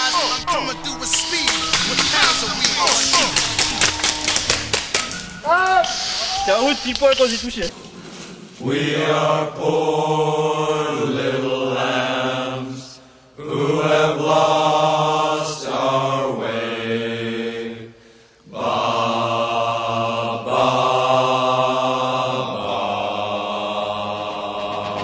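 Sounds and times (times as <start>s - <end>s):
chanted vocal music: 0.0s - 7.9s, 8.5s - 25.0s.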